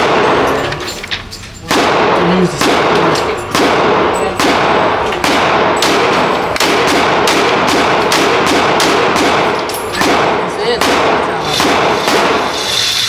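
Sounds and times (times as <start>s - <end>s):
gunshot echo: 0.0s - 0.6s, 1.7s - 12.7s
handgun shots: 0.0s - 0.7s, 1.7s - 12.6s.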